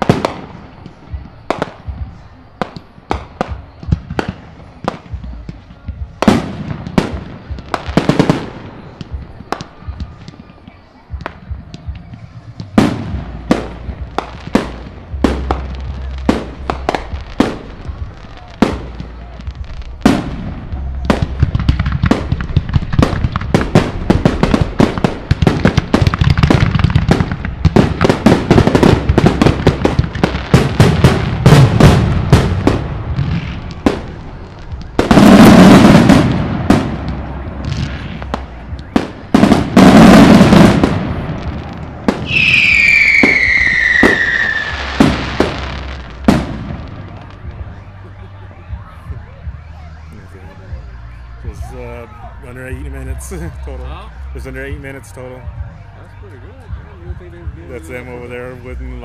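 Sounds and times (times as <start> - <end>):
fireworks bursting with bangs: 0.0 - 59.0.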